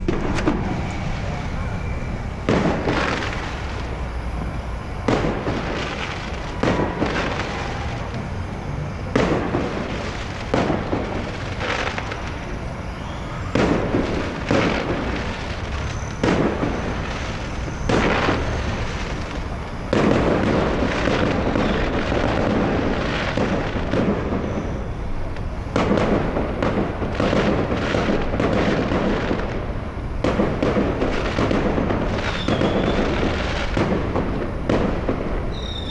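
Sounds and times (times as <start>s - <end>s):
fireworks bangs with echoing rumble: 0.0s - 35.9s.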